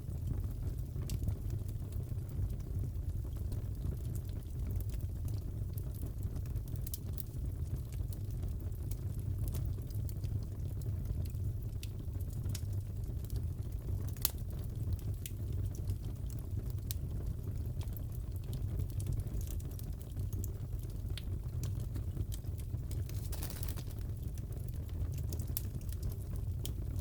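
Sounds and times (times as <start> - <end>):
fire crackling with pops: 0.1 - 27.0.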